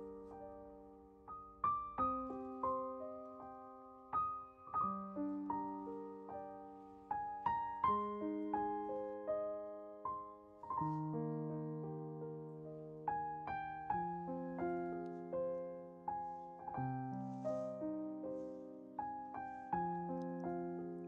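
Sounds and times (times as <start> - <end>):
solo piano melody: 0.0 - 21.0.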